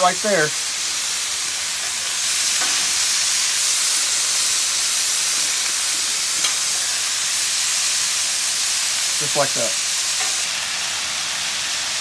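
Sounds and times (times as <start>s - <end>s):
meat sizzling on griddle: 0.0s - 12.0s.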